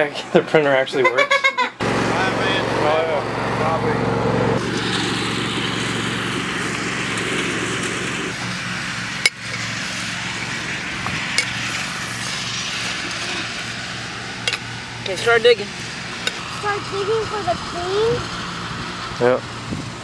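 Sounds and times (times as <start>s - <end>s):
lawn mower engine running: 1.8s - 20.0s.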